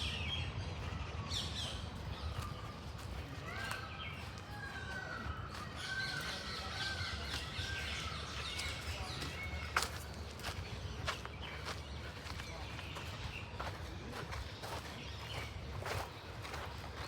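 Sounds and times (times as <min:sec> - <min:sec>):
birds squawking and chirping: 0:00.0 - 0:17.0.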